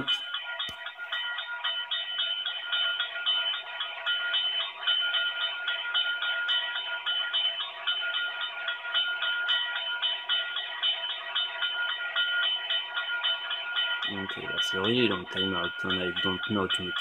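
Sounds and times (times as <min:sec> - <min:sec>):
crossing bell dinging: 0:00.0 - 0:17.0.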